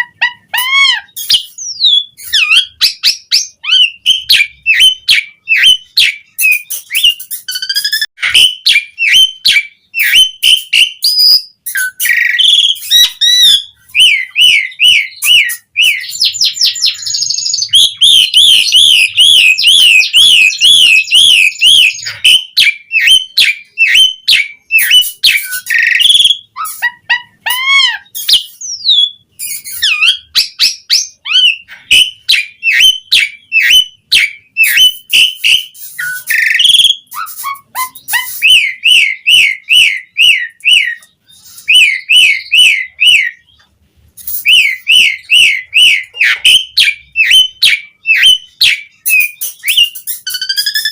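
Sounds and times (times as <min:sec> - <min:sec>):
starling singing: 0:00.0 - 0:50.9.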